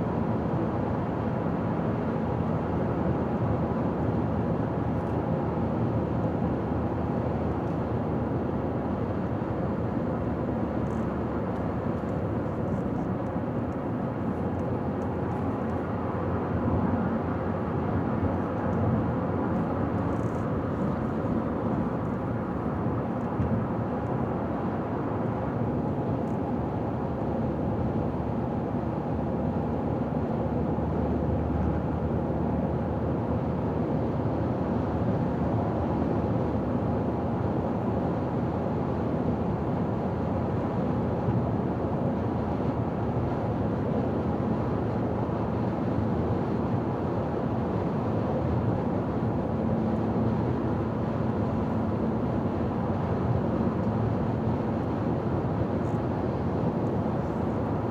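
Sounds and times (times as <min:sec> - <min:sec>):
road and tyre noise: 0:00.3 - 0:28.1, 0:30.2 - 0:57.9.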